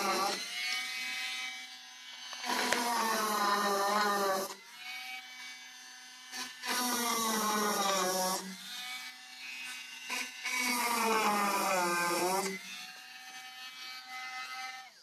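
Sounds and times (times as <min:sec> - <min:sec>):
electric drill driving screws: 0:00.0 - 0:15.0.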